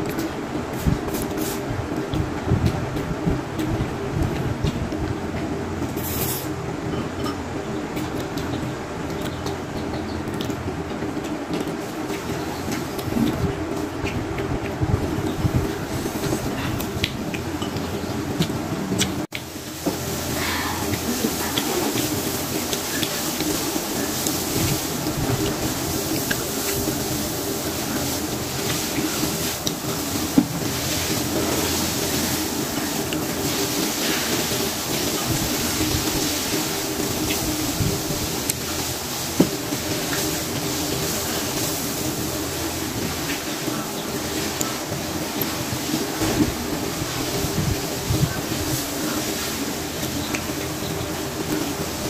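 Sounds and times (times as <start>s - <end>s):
air cooler fan humming: 0.0s - 52.0s.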